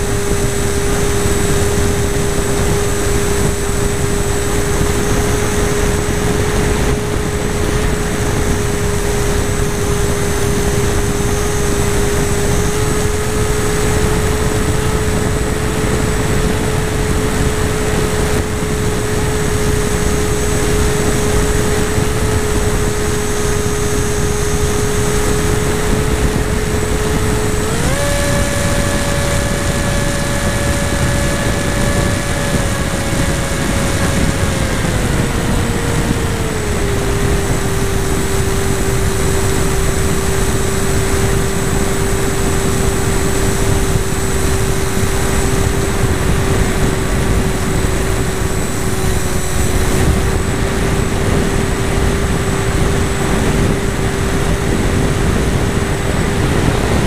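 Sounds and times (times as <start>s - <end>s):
model airplane motor drone: 0.0s - 57.0s
rushing wind noise: 0.0s - 57.0s.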